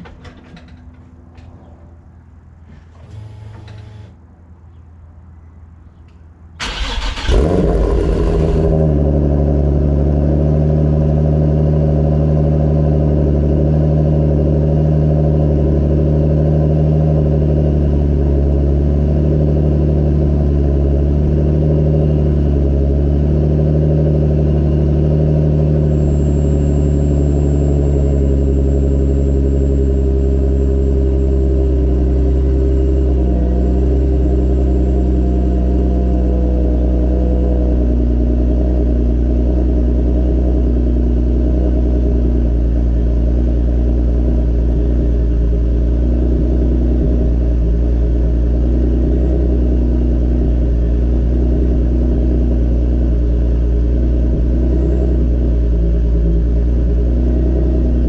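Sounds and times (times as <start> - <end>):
car engine starting and idling: 0.0 - 4.3, 6.5 - 58.0.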